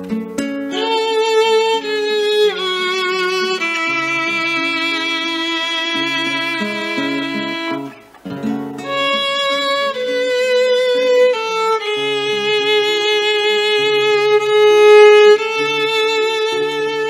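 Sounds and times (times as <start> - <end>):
plucked acoustic guitar: 0.0 - 17.0
violin slow melody: 0.5 - 17.0.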